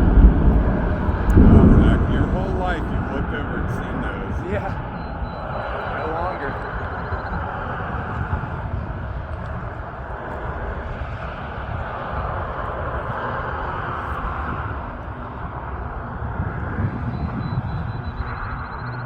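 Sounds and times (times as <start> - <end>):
highway traffic rushing: 0.0 - 19.0.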